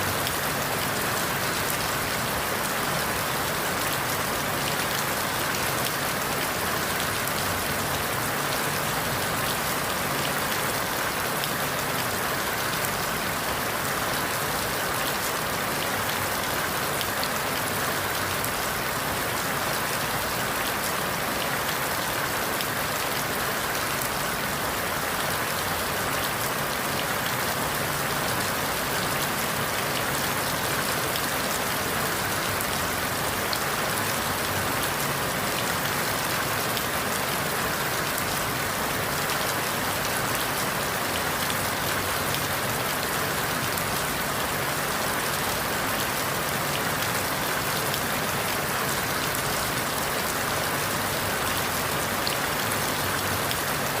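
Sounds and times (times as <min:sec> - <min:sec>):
rain hissing through leaves: 0:00.0 - 0:54.0.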